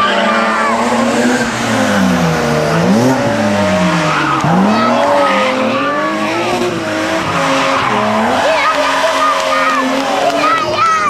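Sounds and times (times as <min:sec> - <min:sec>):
race car engine revving: 0:00.0 - 0:11.0
tyres squealing: 0:00.0 - 0:11.0.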